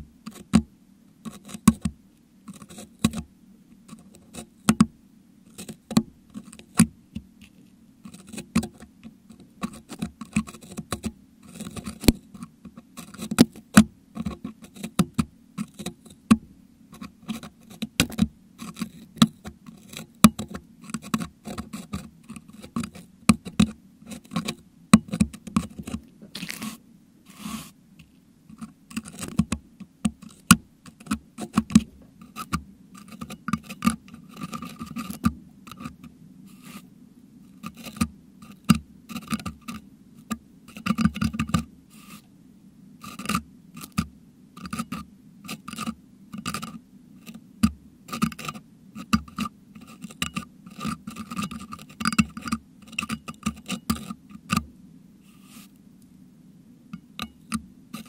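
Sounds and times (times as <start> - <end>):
sharp clicks and scratches: 0.3 - 3.3, 5.5 - 36.9, 37.5 - 42.3, 43.0 - 47.4, 48.1 - 54.7, 57.0 - 58.0.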